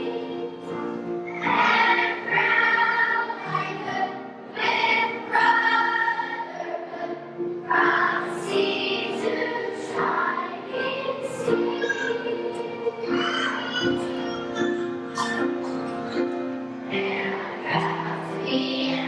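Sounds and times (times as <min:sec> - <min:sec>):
children's choir singing: 0:00.0 - 0:19.0
musical accompaniment: 0:00.0 - 0:19.0.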